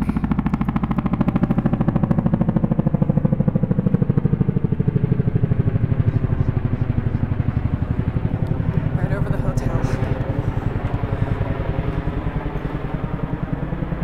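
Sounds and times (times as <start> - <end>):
helicopter engine whine: 0.0 - 14.0
helicopter rotors beating: 0.0 - 14.0.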